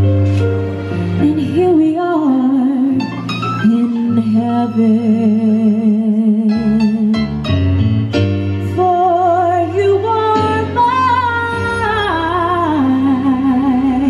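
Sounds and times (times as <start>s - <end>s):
keyboard chords: 0.0s - 14.0s
woman singing a slow ballad: 1.2s - 7.3s, 8.6s - 14.0s.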